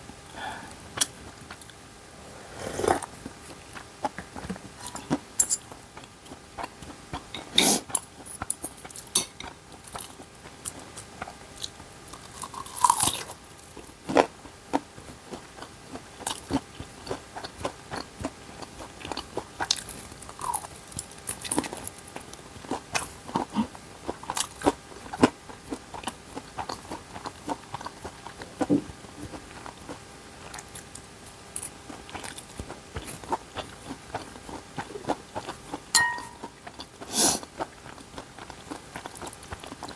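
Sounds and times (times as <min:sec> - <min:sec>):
person eating and chewing: 0:00.4 - 0:39.9.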